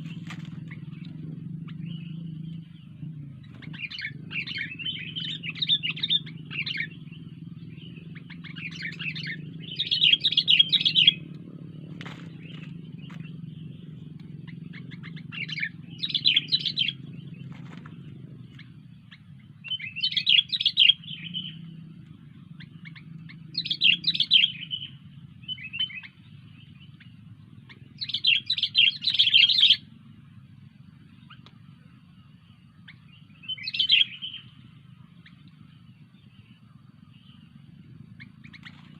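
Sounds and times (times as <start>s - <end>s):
bulbul chattering song: 0.0s - 38.9s
low steady hum: 0.0s - 38.9s.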